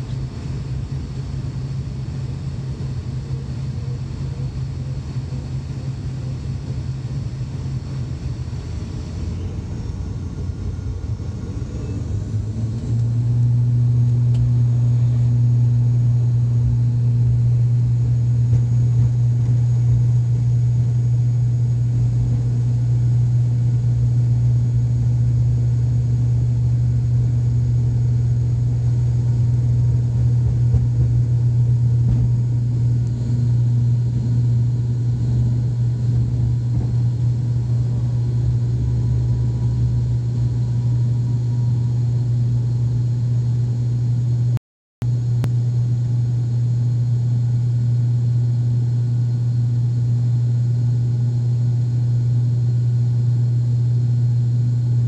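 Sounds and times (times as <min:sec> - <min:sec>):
turboprop engines droning: 0:00.0 - 0:48.6.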